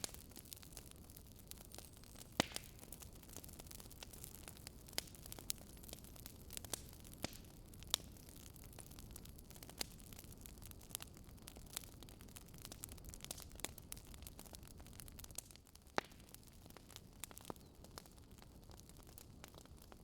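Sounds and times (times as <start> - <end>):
fire burning with low rumble: 0.0 - 20.0
fire crackling and popping: 0.0 - 20.0.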